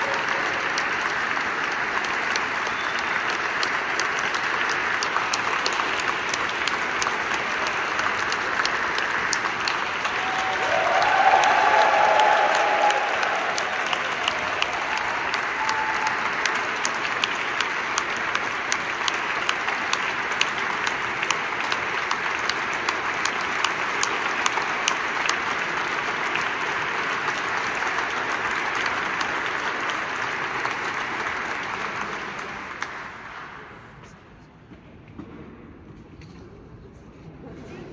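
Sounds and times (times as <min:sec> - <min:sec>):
audience applause: 0:00.0 - 0:34.0.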